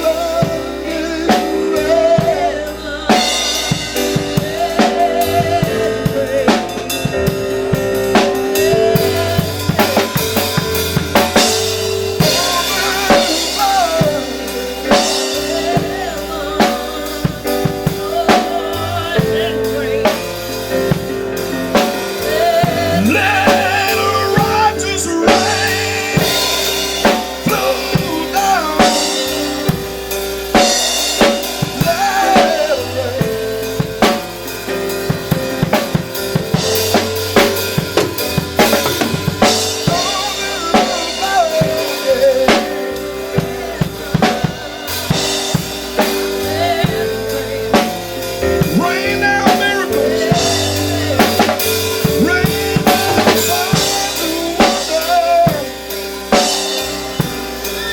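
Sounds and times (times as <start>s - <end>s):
bass line: 0.0s - 57.9s
drum kit beat: 0.0s - 57.9s
keyboard chords: 0.0s - 57.9s.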